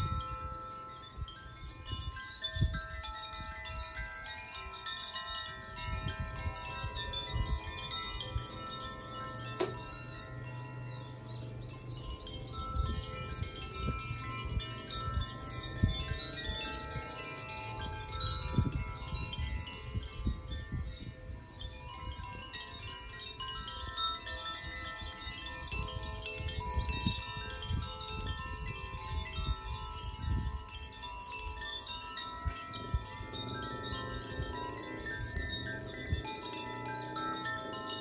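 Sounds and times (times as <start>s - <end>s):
wind chimes tinkling: 0.0s - 38.0s.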